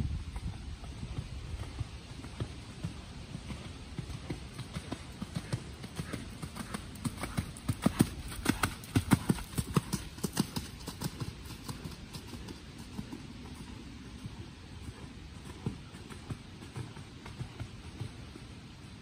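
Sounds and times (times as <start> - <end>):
horse hoofbeats on dirt: 0.0 - 19.0.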